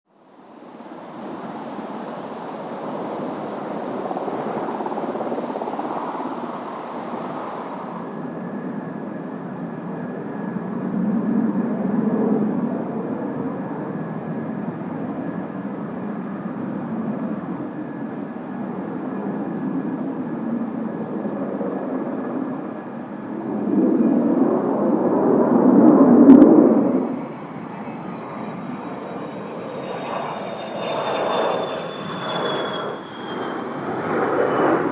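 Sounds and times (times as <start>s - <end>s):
distant jet engine rush: 0.1s - 34.9s.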